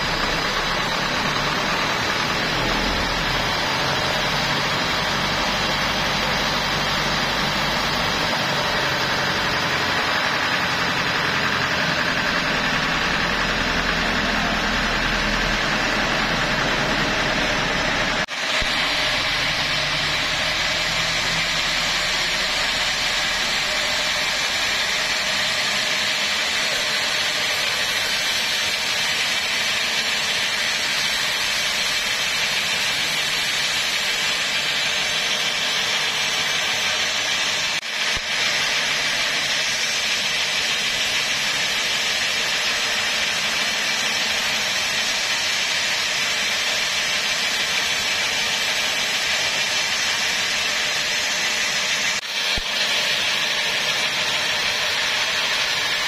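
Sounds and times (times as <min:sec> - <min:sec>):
band saw blade sawing log: 0:00.0 - 0:56.0
diesel engine drone: 0:00.0 - 0:56.0.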